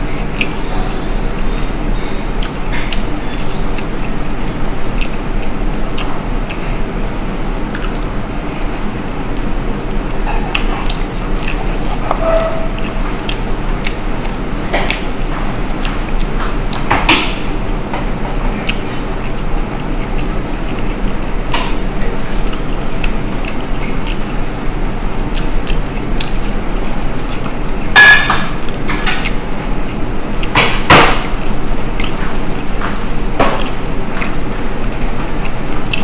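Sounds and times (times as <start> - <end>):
person chewing and smacking: 0.0 - 36.0.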